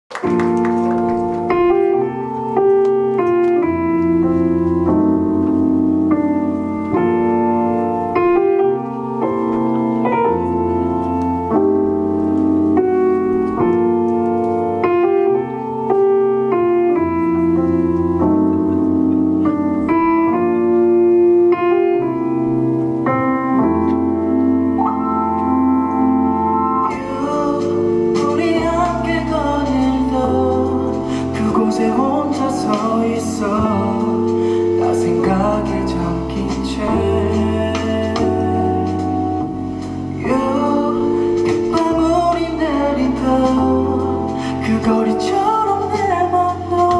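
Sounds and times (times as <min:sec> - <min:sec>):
piano chords: 0:00.1 - 0:46.9.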